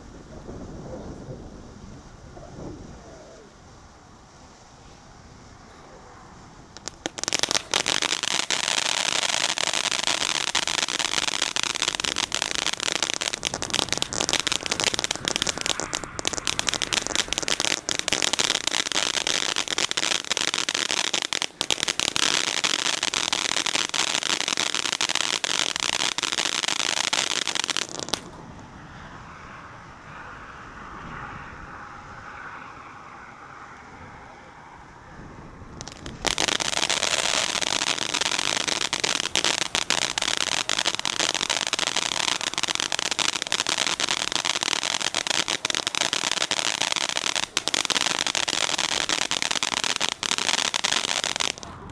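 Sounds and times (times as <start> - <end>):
firework fountain hissing: 0.0 - 30.0, 35.7 - 51.9
firework dense crackling: 0.0 - 51.9.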